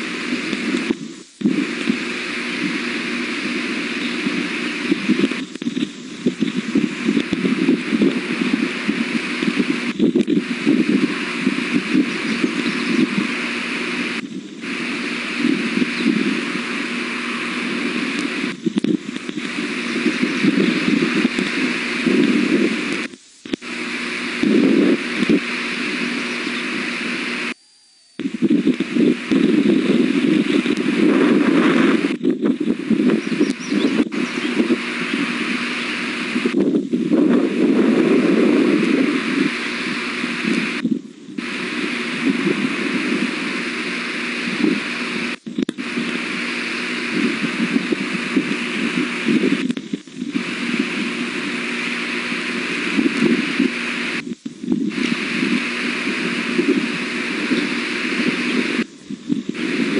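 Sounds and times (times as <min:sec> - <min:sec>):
wind on microphone: 0:00.0 - 0:27.4, 0:28.2 - 0:59.9
loud steady rushing noise: 0:00.0 - 0:27.6, 0:28.3 - 0:59.9.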